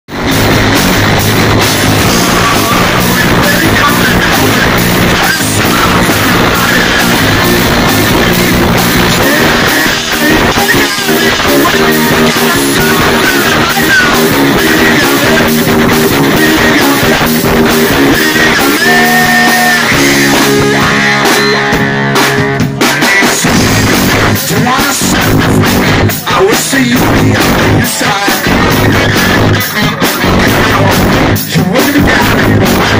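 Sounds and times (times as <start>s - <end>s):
live rock band playing: 0.1s - 32.9s.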